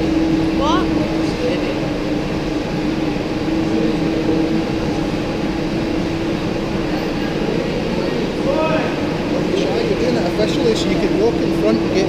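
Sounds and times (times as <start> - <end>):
constant low hum: 0.0 - 12.0
exercise bikes whirring: 0.0 - 12.0.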